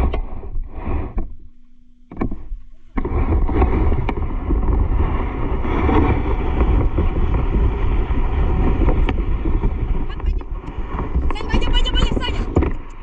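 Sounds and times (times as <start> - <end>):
wind buffeting microphone: 0.0 - 1.5, 2.1 - 13.0.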